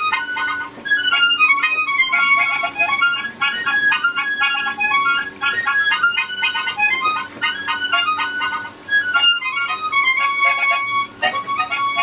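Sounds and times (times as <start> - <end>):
harmonica melody: 0.0 - 12.0.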